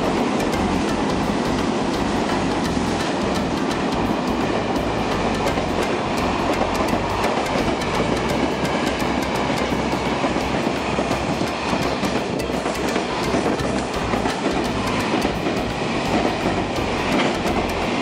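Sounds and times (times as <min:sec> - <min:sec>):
train wheels rumbling on rails: 0:00.0 - 0:18.0
wheels clicking over rail joints: 0:00.0 - 0:18.0.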